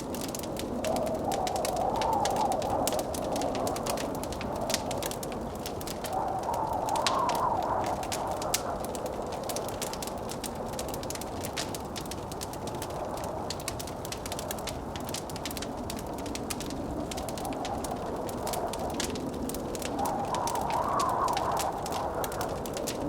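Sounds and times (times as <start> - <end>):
blizzard wind rushing: 0.0 - 23.0
wood fire crackling: 0.0 - 23.0.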